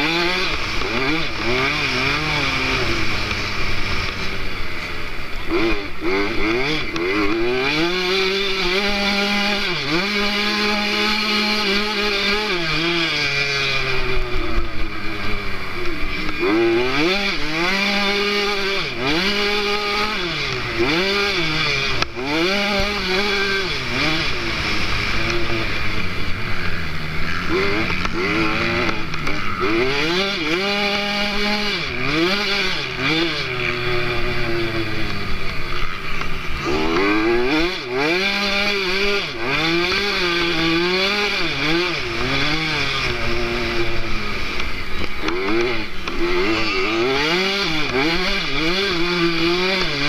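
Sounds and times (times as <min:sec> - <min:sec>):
motocross engine revving: 0:00.0 - 0:50.0.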